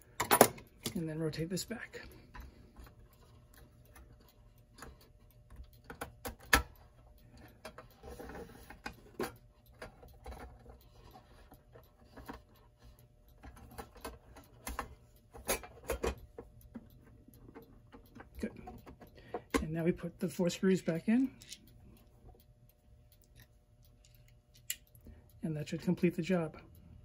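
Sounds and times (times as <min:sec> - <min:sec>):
clock parts clicking and knocking: 0:00.0 - 0:25.1.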